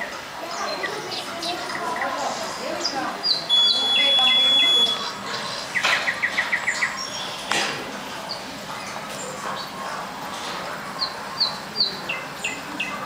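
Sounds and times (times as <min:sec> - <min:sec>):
birds chirping: 0:00.0 - 0:13.0
murmur of voices: 0:00.0 - 0:13.0.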